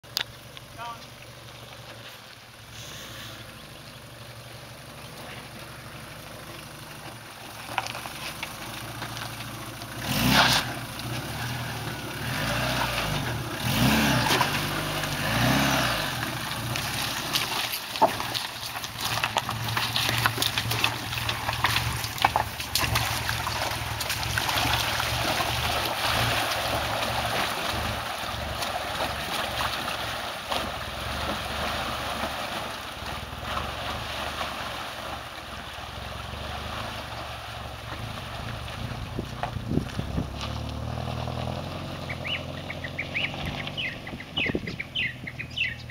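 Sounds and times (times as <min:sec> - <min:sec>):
tyres crunching over stones: 0:00.0 - 0:45.9
car engine revving: 0:02.6 - 0:45.9.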